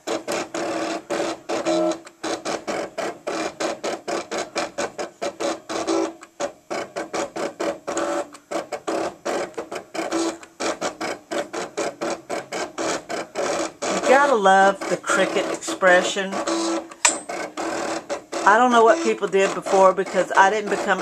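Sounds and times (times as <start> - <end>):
cutting machine motors whirring: 0.0 - 21.0.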